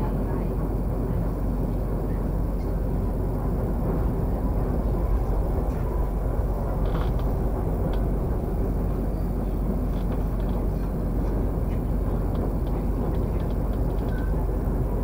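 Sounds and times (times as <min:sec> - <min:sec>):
train carriage rumbling: 0:00.0 - 0:15.0.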